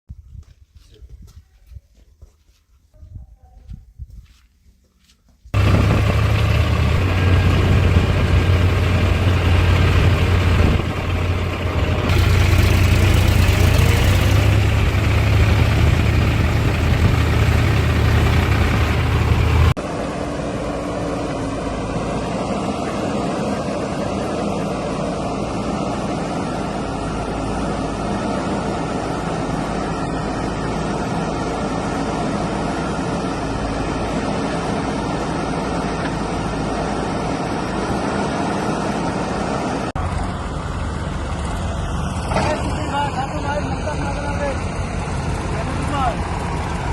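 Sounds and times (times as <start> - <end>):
heavy diesel engines running: 5.6 - 46.9.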